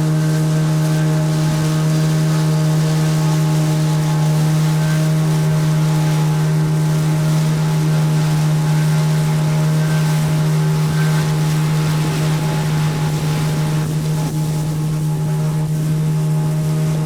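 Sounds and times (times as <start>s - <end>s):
outboard motor droning: 0.0s - 17.0s
water: 0.0s - 17.0s.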